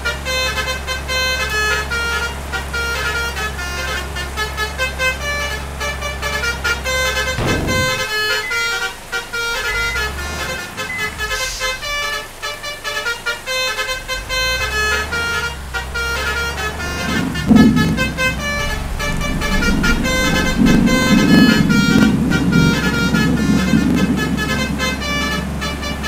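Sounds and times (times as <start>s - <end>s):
bus engine rumble: 0.0s - 26.0s
bus horn playing melodic notes: 0.0s - 26.0s.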